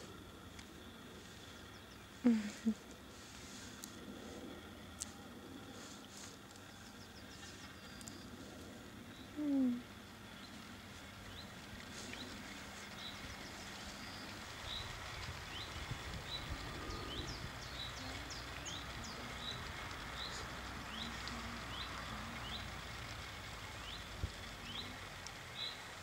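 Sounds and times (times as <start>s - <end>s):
birds chirping: 0.0s - 5.0s, 5.6s - 26.0s.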